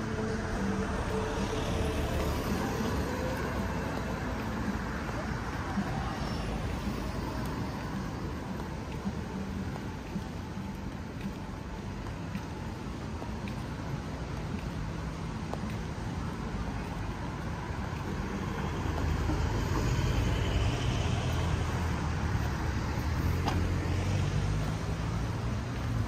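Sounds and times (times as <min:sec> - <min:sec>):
cars passing: 0:00.0 - 0:26.0
vehicle engine and tyre rumble: 0:00.0 - 0:26.0.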